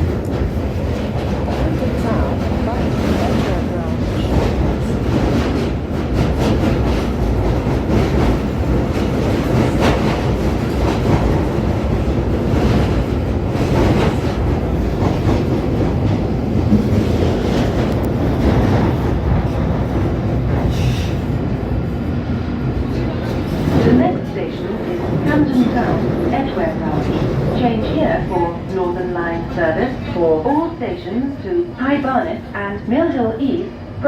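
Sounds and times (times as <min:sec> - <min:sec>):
train rumbling in tunnel: 0:00.0 - 0:34.0.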